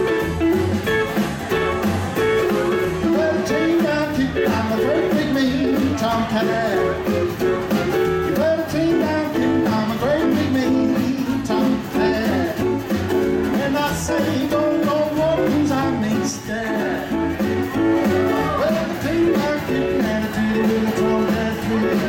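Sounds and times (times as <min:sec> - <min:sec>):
live rockabilly band playing: 0:00.0 - 0:22.0.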